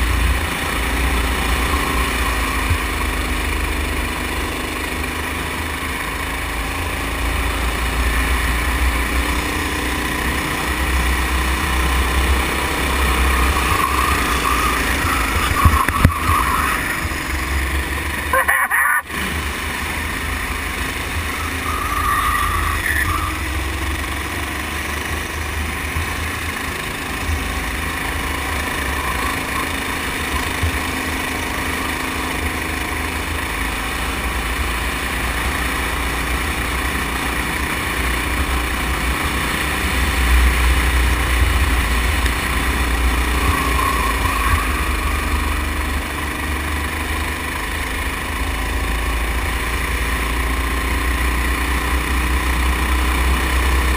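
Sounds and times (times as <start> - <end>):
go-kart engine running: 0.0 - 53.9.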